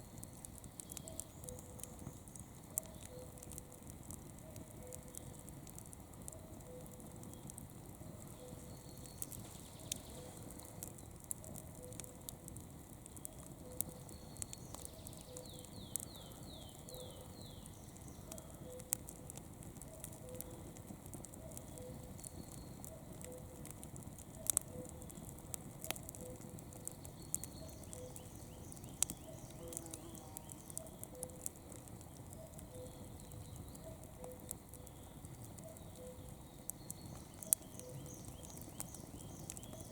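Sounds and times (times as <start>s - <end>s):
campfire crackling and popping: 0.0s - 39.9s
soft steady fire hiss: 0.0s - 39.9s.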